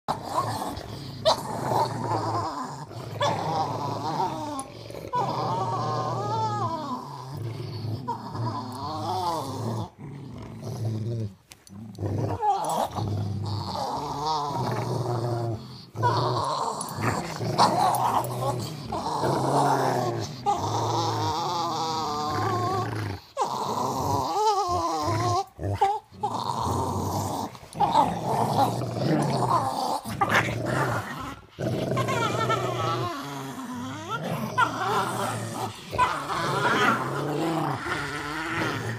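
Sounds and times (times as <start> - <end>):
dogs growling: 0.0 - 38.9.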